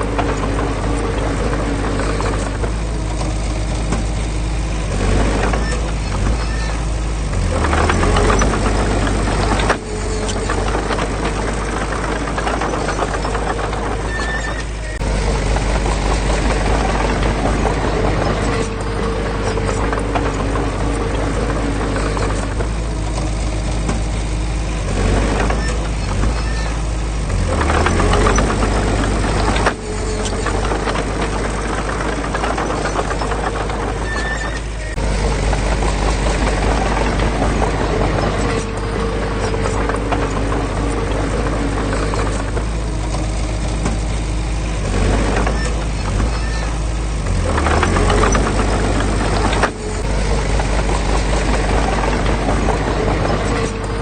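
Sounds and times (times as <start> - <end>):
heavy machinery diesel engine: 0.0 - 54.0.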